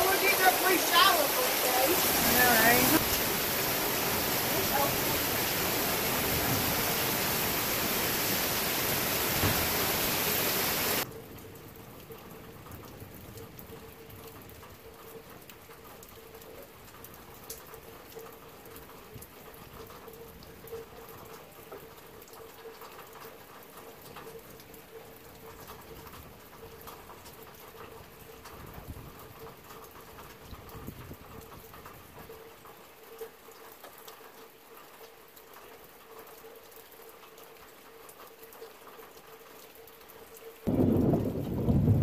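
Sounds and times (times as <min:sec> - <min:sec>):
heavy rain pouring: 0:00.0 - 0:42.0.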